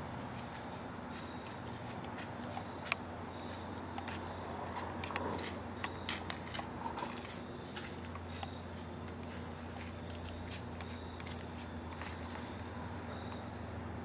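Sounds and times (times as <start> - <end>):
footsteps in dry leaves: 0.1 - 13.7.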